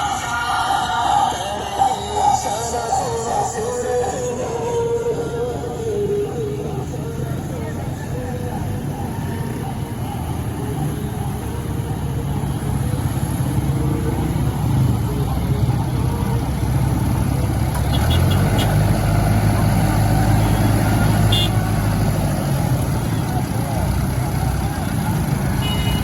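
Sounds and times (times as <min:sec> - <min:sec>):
motor vehicle engines running: 0:00.0 - 0:26.0.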